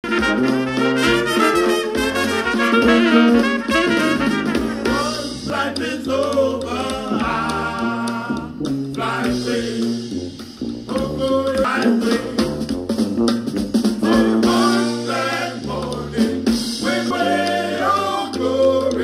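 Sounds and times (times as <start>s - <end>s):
upbeat song with brass: 0.0s - 19.0s.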